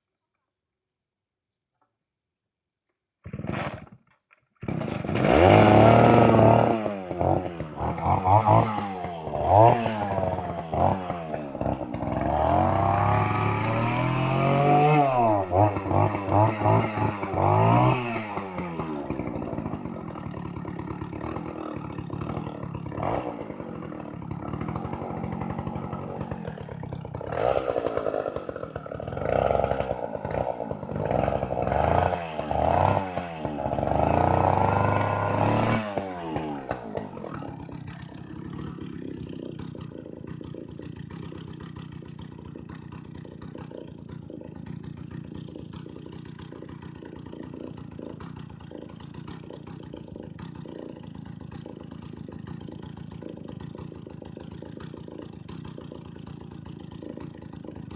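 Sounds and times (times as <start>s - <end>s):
chainsaw engine revving and idling: 3.2s - 57.9s.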